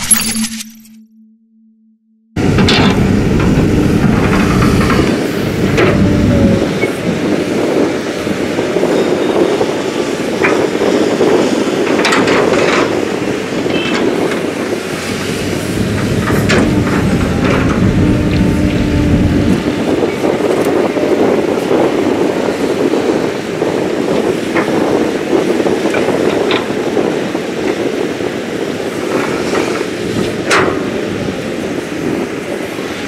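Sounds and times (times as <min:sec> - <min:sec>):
excavator diesel engine under load: 0:02.4 - 0:33.0.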